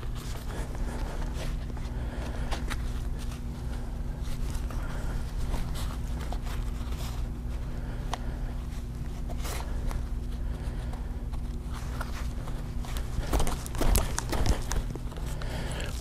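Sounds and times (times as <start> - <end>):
rustles and light clicks: 0.0 - 16.0
steady low hum: 0.0 - 16.0.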